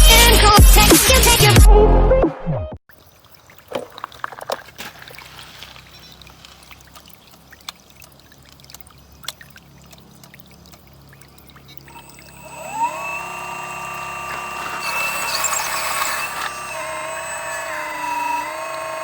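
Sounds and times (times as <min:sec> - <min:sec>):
water splashing and trickling: 0:02.9 - 0:19.0.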